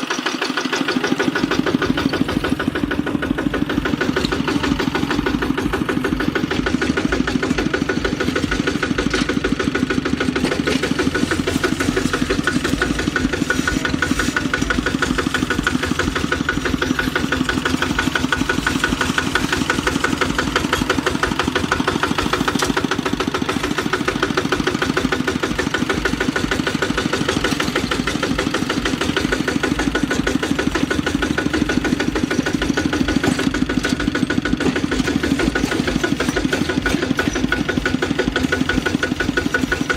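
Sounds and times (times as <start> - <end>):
diesel engine running rapidly: 0.0 - 39.9.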